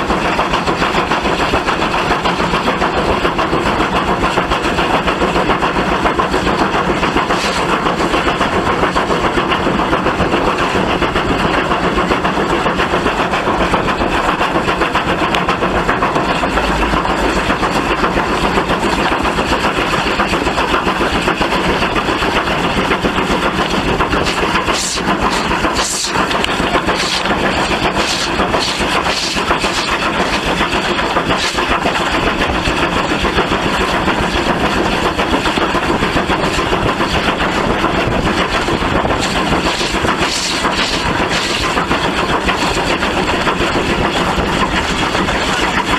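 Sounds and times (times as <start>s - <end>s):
steam locomotive rushing: 0.0s - 45.9s.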